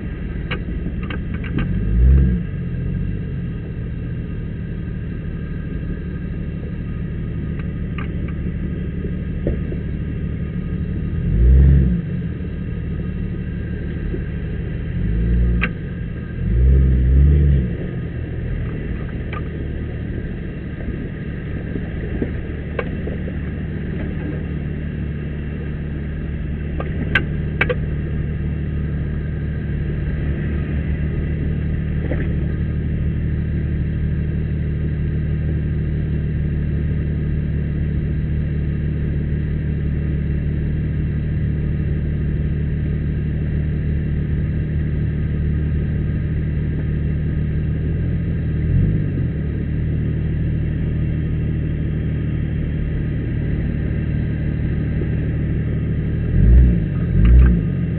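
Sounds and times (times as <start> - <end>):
engine running at low revs: 0.0 - 57.9.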